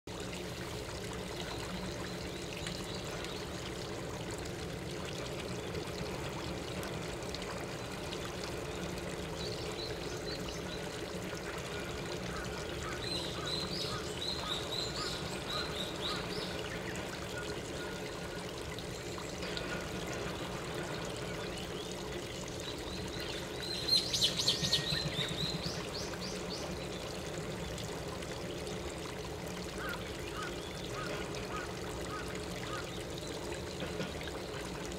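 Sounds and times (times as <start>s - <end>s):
running water: 0.1s - 34.9s.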